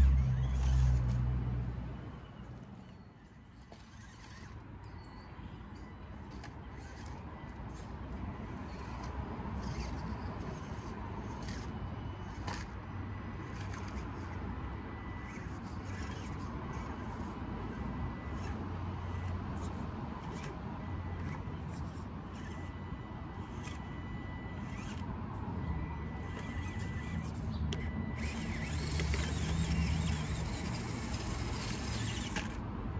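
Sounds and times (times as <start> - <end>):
small electric motor whirring: 0.0 - 1.7, 2.4 - 32.7.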